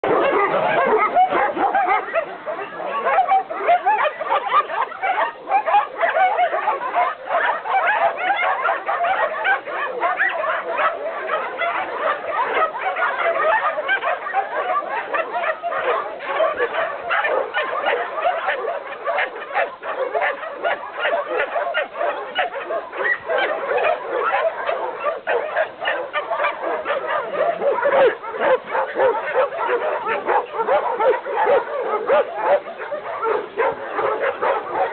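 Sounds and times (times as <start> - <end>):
many dogs barking and yipping: 0.0 - 34.9.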